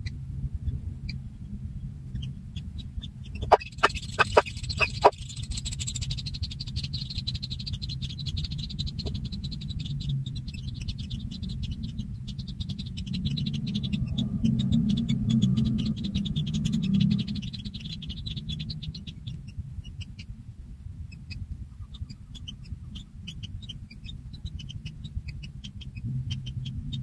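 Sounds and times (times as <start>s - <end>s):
chorus of high ticking calls: 2.2s - 20.3s, 21.1s - 27.0s.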